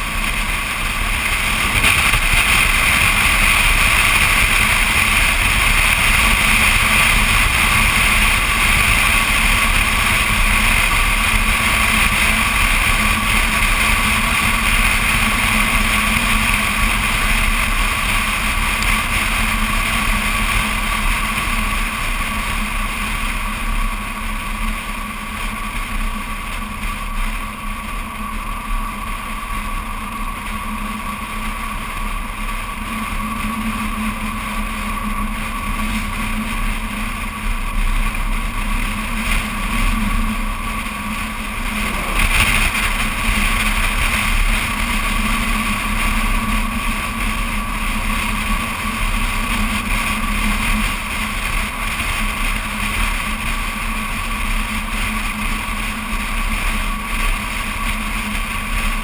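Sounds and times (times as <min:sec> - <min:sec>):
car driving engine tyre and wind noise: 0:00.0 - 0:59.0.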